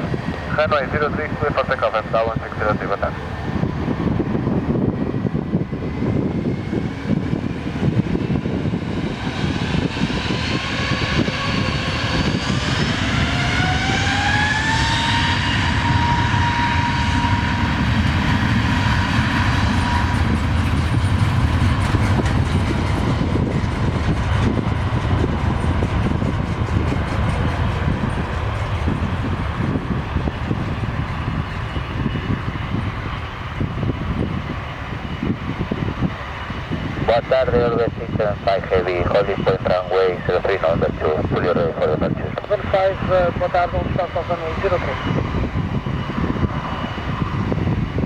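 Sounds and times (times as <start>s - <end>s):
jet engines whining on takeoff: 0.0s - 48.0s.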